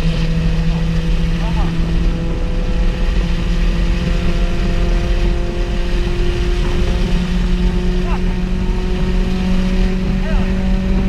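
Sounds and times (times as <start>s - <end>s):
car engine accelerating: 0.0s - 11.0s
road and wind noise: 0.0s - 11.0s.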